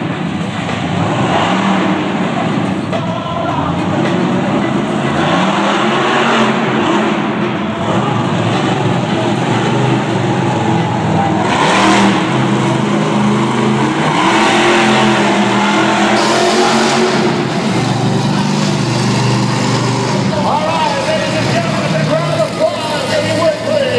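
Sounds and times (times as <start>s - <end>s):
monster truck engine revving: 0.0s - 23.9s.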